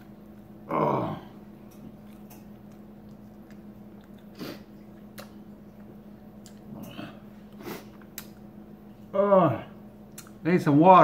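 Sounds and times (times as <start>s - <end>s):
man chewing food: 0.0s - 9.1s, 9.9s - 10.4s
steady low hum: 0.0s - 11.0s.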